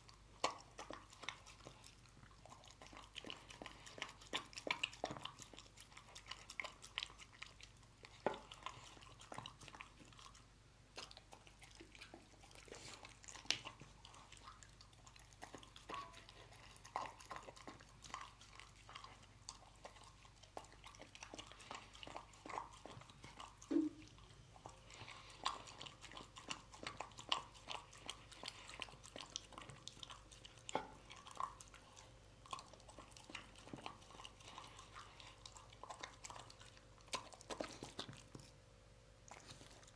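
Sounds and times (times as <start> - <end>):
dog chewing and licking food: 0.0 - 39.9.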